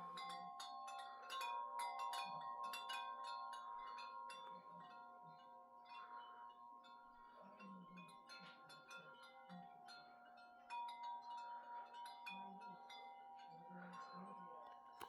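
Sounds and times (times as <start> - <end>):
wind chimes jangling: 0.0 - 15.0.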